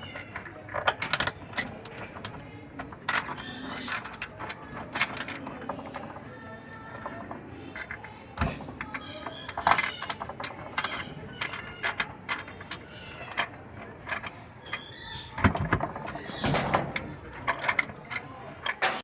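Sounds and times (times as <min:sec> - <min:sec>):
metal tools and bolts clinking: 0:00.0 - 0:19.0.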